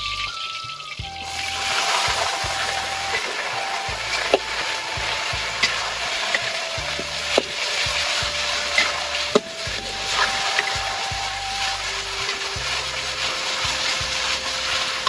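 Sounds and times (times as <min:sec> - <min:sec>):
food sizzling in a pan: 0:01.2 - 0:15.0.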